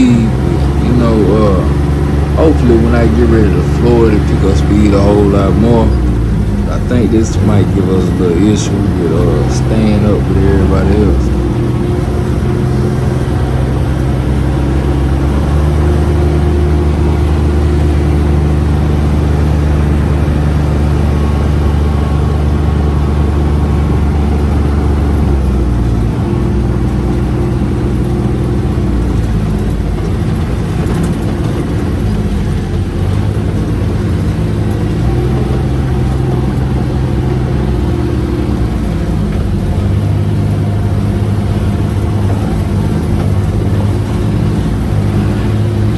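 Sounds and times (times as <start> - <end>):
utv engine droning: 0.0 - 45.9.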